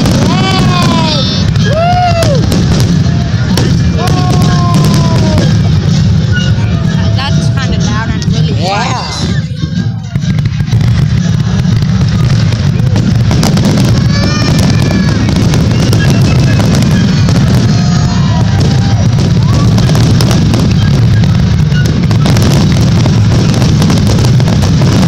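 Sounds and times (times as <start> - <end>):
fireworks bangs and booms: 0.0 - 25.0.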